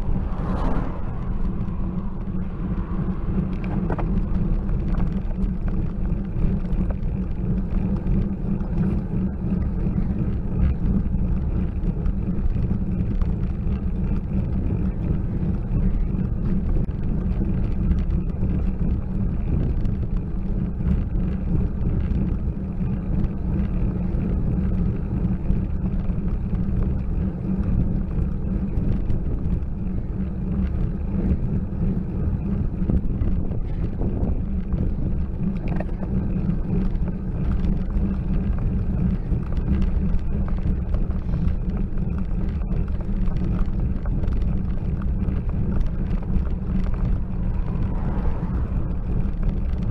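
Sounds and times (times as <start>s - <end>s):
road vibration rumble: 0.0s - 49.9s
wind rumble on microphone: 0.0s - 49.9s.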